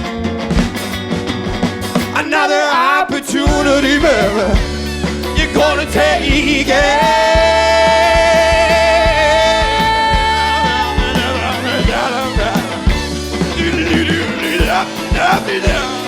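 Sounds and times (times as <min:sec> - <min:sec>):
rock band playing: 0:00.0 - 0:16.0
voices singing in harmony: 0:02.2 - 0:16.0.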